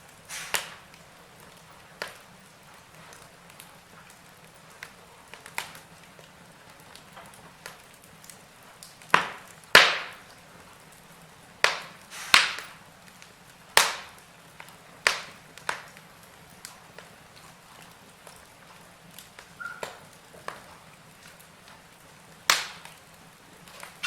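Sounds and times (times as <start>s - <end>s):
sharp pops of burning logs: 0.0s - 24.0s
wood fire crackling: 0.0s - 24.0s.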